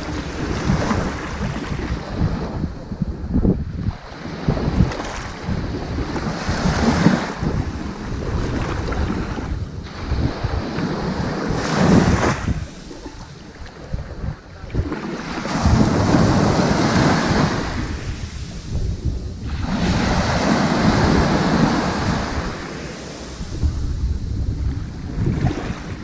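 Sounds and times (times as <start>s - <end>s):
ocean waves on beach: 0.0s - 26.0s
wind buffeting microphone: 0.0s - 26.0s.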